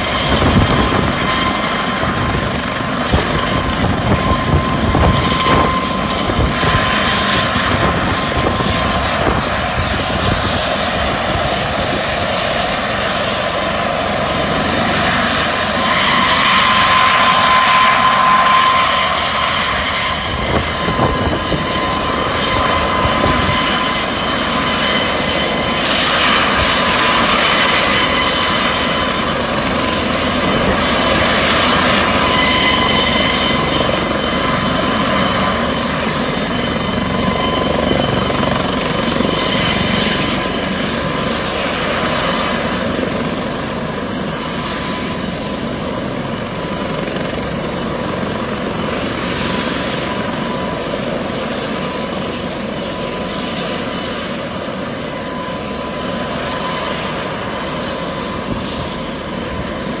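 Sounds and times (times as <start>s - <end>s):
helicopter engine whine: 0.0s - 60.0s
helicopter rotor rushing: 0.0s - 60.0s.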